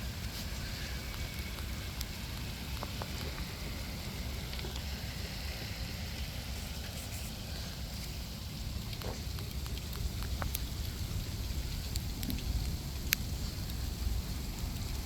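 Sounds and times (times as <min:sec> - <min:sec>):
low rumble: 0:00.0 - 0:15.0
raindrops ticking: 0:00.0 - 0:15.0
steady rain hiss: 0:00.0 - 0:15.0.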